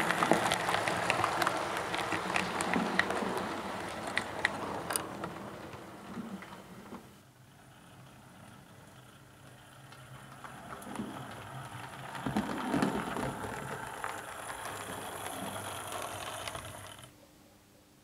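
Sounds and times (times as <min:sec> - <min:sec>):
model train motor whirring: 0:00.0 - 0:17.2
wheels rattling over track: 0:00.0 - 0:17.2.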